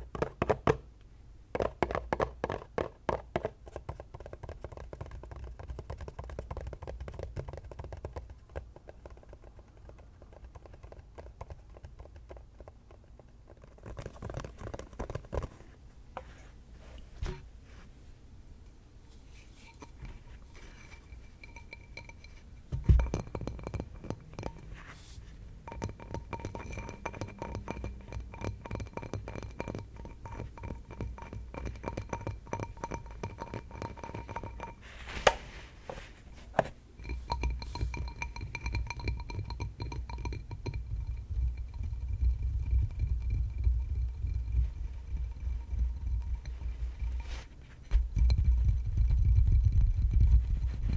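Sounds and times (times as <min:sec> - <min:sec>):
fast tapping on ringing object: 0:01.6 - 0:15.5, 0:19.6 - 0:34.9, 0:37.0 - 0:50.9.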